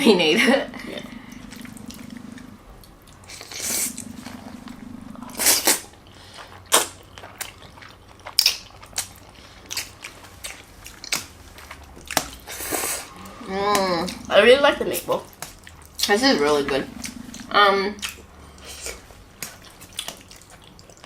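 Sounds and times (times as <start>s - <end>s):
wet chewing and slurping: 0.7s - 21.0s.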